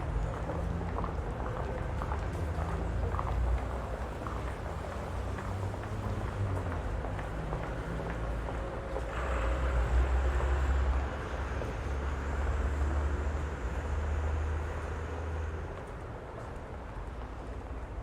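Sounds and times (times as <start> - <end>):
general street noise: 0.0 - 18.0.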